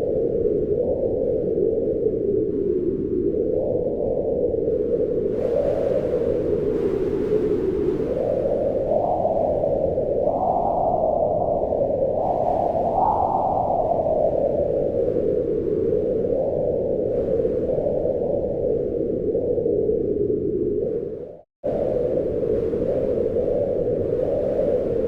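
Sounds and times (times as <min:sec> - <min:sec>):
wind howling: 0:00.0 - 0:25.0.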